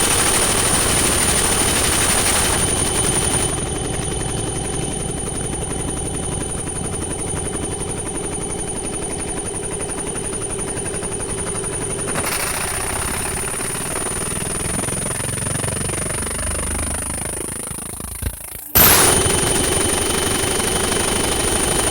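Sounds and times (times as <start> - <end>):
laser printer pulsing and whining: 0.0 - 21.9.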